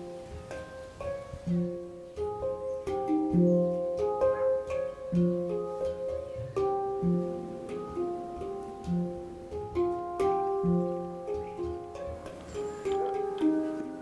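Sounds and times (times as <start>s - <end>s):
plucked-string melody: 0.0s - 14.0s.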